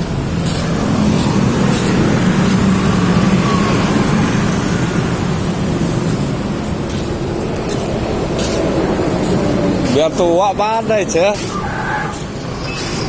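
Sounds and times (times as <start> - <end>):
car engine running: 0.0 - 12.6.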